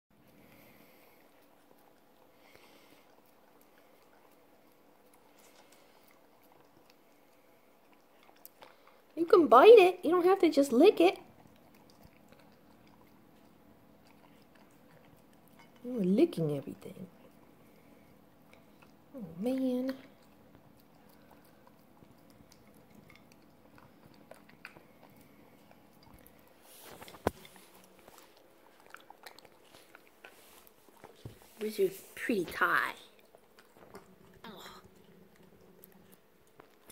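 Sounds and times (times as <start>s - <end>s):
dog licking food: 0.2s - 36.9s.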